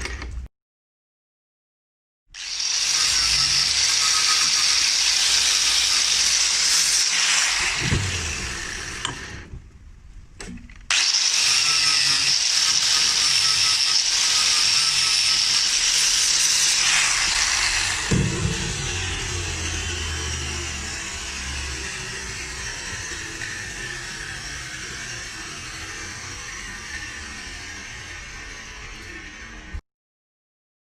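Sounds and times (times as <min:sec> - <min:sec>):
angle grinder whining: 0:02.4 - 0:09.6, 0:10.9 - 0:29.8.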